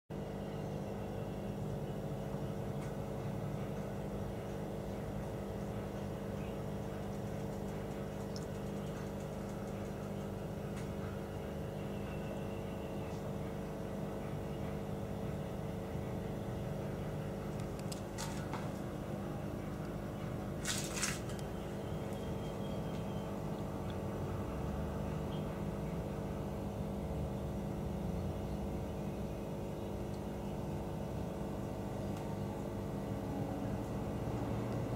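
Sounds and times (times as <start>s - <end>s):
steady machine hum: 0.1s - 34.9s.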